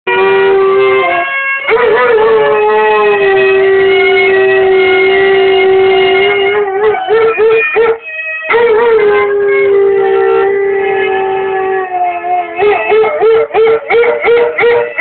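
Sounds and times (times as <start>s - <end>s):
dog howling: 0.1s - 15.0s.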